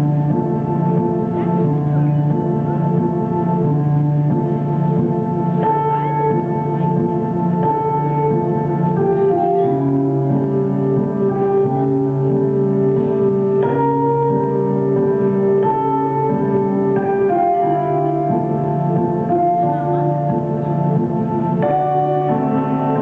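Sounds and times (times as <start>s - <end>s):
slow piano and strings music: 0.0s - 23.0s.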